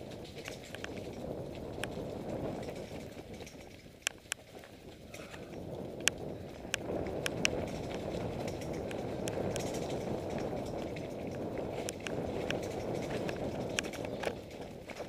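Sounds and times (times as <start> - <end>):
bike clicks and rattles: 0.0 - 15.0
bike tyres rumbling on dirt: 0.0 - 15.0.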